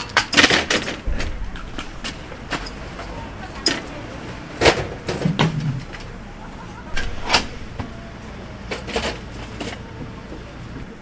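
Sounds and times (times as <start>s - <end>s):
steel frames clanking on pavement: 0.0s - 11.0s.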